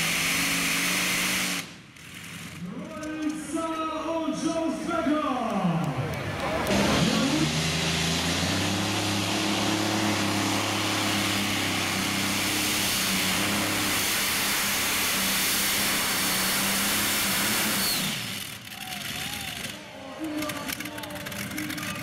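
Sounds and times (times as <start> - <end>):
tractor engine at full throttle: 0.0 - 3.7, 6.0 - 22.0
exhaust rush: 0.0 - 22.0.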